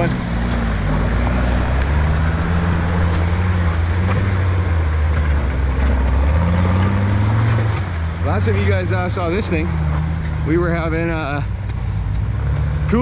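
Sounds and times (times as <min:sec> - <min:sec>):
off-road vehicle engine drone: 0:00.0 - 0:13.0.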